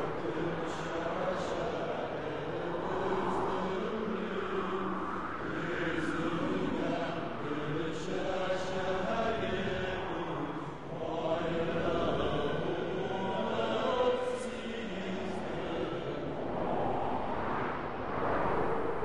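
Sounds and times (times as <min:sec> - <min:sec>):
wordless choir chanting: 0:00.0 - 0:19.0.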